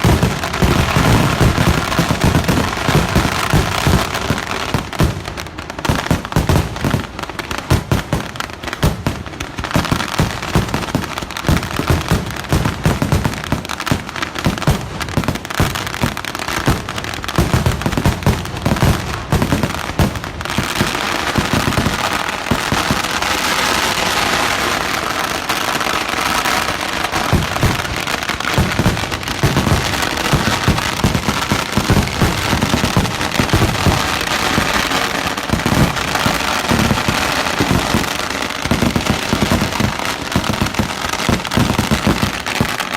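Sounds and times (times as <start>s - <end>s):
firework bangs: 0.0s - 42.9s.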